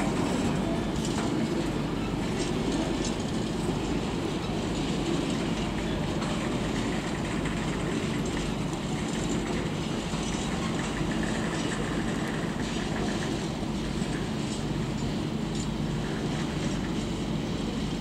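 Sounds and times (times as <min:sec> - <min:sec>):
train running on track: 0:00.0 - 0:18.0.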